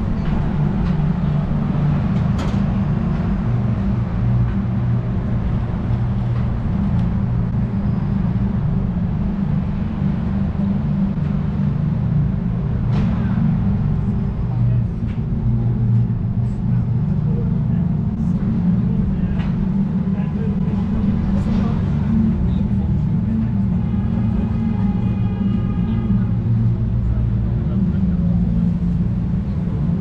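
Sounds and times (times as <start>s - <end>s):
road traffic engine rumble: 0.0s - 30.0s.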